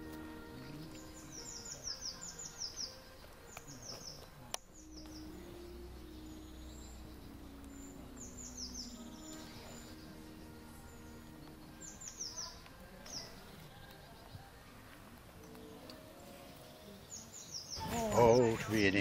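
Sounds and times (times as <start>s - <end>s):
soft background music chords: 0.0s - 19.0s
songbird singing: 0.0s - 19.0s.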